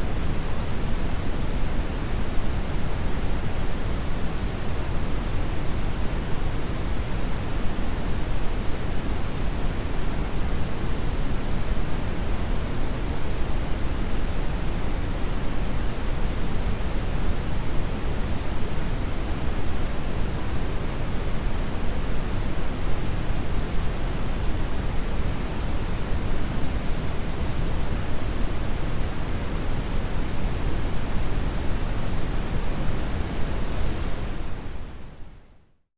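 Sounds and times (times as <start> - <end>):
brown noise hiss: 0.0 - 35.8.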